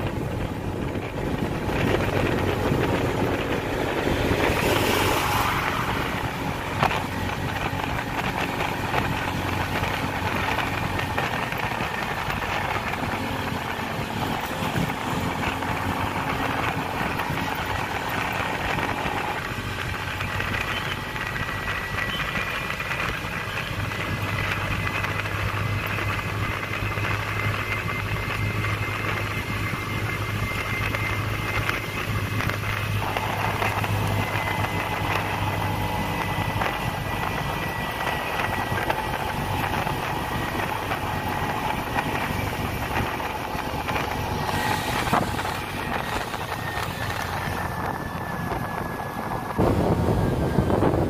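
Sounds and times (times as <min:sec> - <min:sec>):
road and wind noise: 0:00.0 - 0:51.0
small vehicle engine running: 0:00.0 - 0:51.0.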